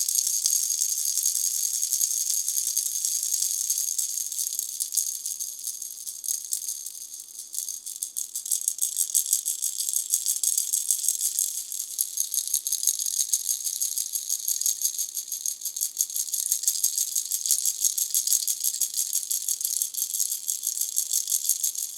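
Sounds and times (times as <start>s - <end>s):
baby rattle shaking: 0.0s - 21.9s.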